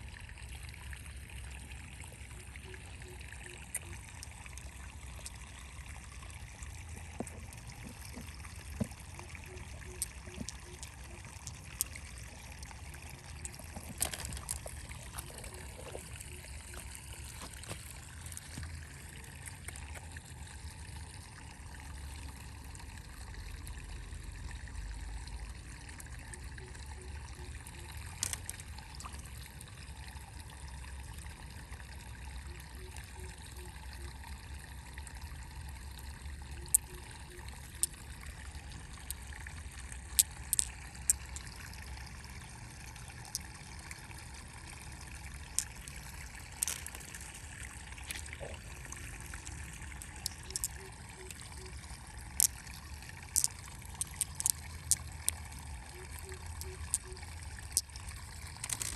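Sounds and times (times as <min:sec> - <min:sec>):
water trickling: 0:00.0 - 0:58.9.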